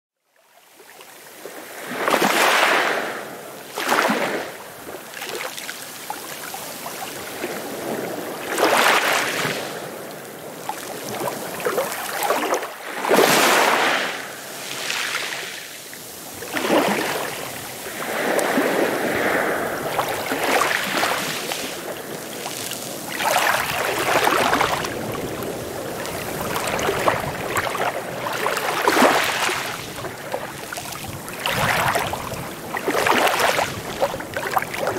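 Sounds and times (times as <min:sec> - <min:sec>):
small waves lapping and splashing: 0:00.4 - 0:34.9.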